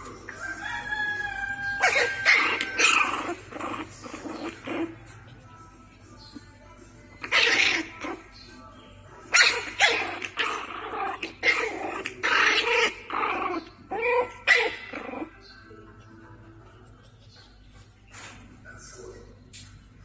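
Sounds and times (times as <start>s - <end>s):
puppies growling: 0.0s - 8.6s, 9.3s - 20.0s.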